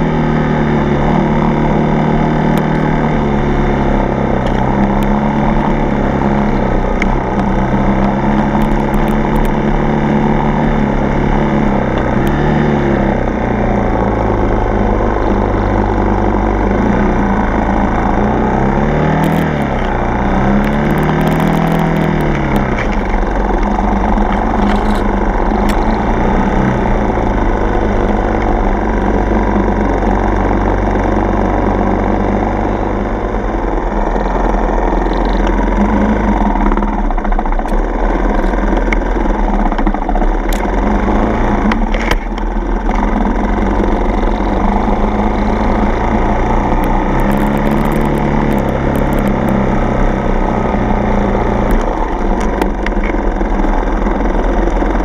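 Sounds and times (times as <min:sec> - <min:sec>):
dirt bike engine revving: 0:00.0 - 0:39.8, 0:40.4 - 0:55.0.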